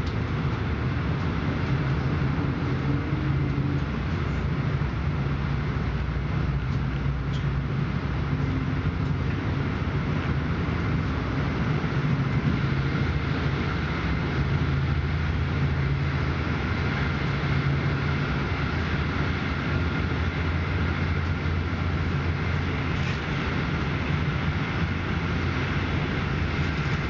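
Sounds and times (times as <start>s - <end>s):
train running heard from inside: 0.0s - 27.0s.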